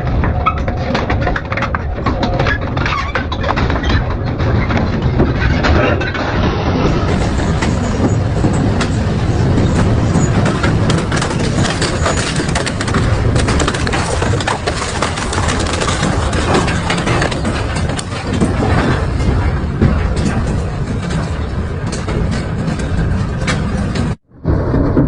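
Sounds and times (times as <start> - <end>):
metal cracking and snapping: 0.0 - 24.2
metal shredder rumbling: 0.0 - 25.0.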